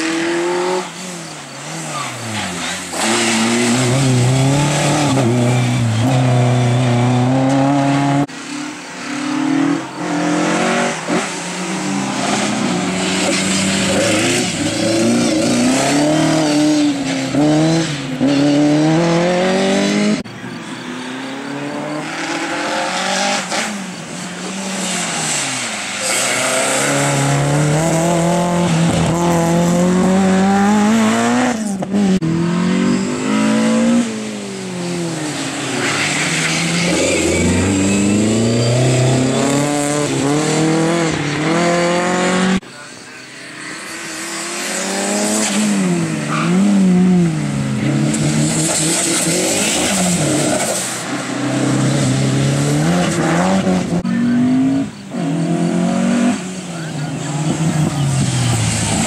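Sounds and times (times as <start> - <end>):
racing car engines revving: 0.0 - 59.0.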